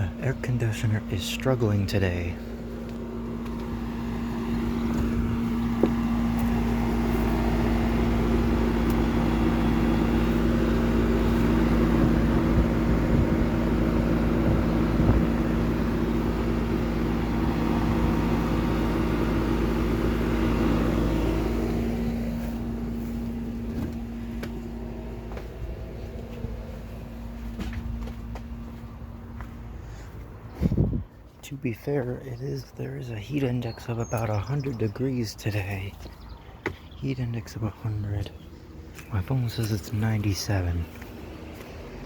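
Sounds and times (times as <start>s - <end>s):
air conditioner fan rushing: 0.0s - 42.0s
air conditioner hum: 0.0s - 42.0s.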